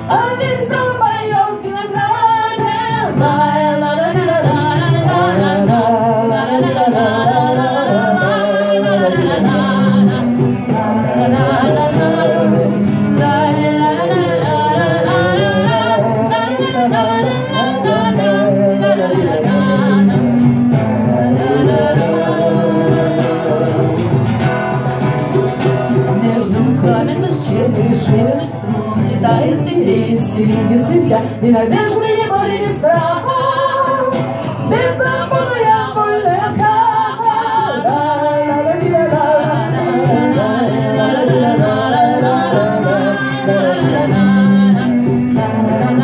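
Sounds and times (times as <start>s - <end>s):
person singing: 0.0s - 24.4s, 25.6s - 46.0s
sustained guitar chords: 2.6s - 36.7s, 37.5s - 46.0s.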